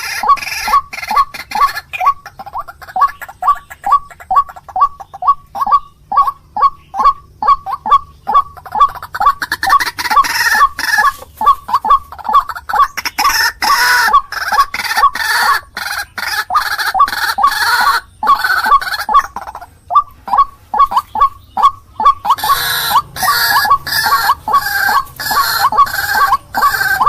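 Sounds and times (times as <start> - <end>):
waterhen calling: 0.0 - 27.0.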